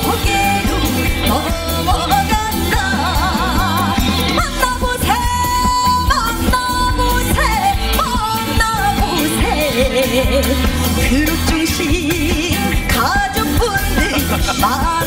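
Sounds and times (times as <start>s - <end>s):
steady bass beat: 0.0s - 15.0s.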